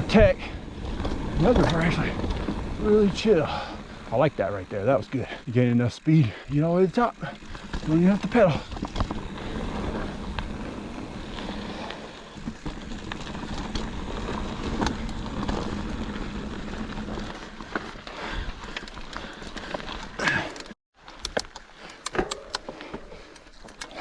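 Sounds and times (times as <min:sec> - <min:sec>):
bike tyres rolling on dirt: 0:00.0 - 0:22.0
bike clicks and rattles: 0:00.0 - 0:24.0.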